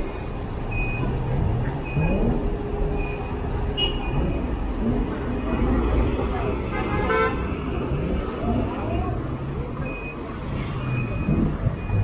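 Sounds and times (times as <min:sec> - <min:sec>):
traffic engines running: 0:00.0 - 0:12.0.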